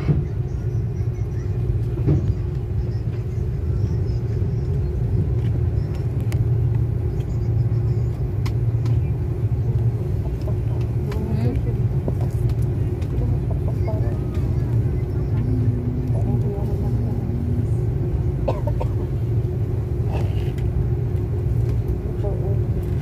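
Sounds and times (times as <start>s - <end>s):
cabin hum: 0.0s - 23.0s
engines and wheels rumbling: 0.0s - 23.0s.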